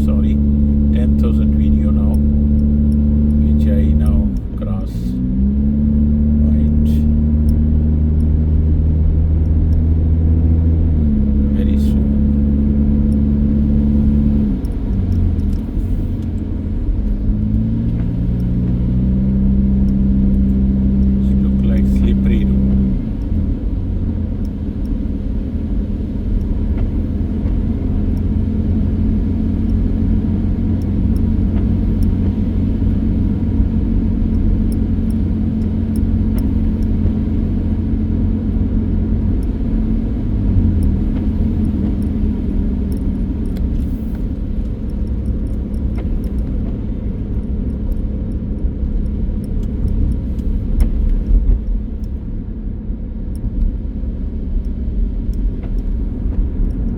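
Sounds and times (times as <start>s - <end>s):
car engine and road noise: 0.0s - 56.9s.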